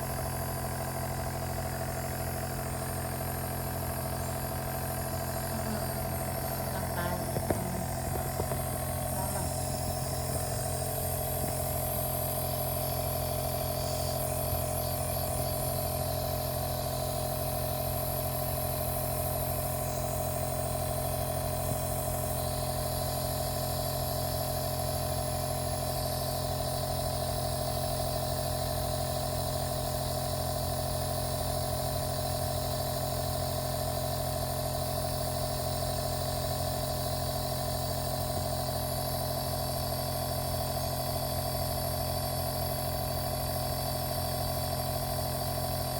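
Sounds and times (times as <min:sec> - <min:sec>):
air compressor humming: 0:00.0 - 0:45.9.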